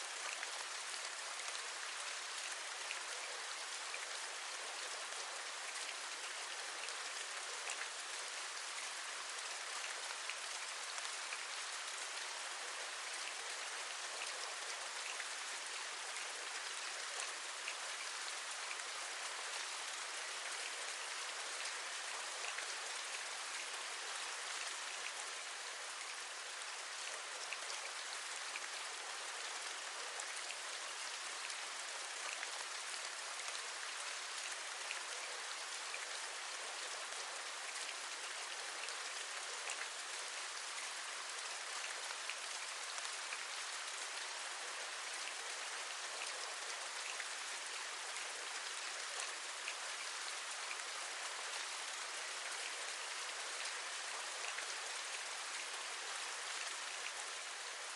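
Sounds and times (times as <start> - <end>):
steady rain hissing: 0.0 - 57.9.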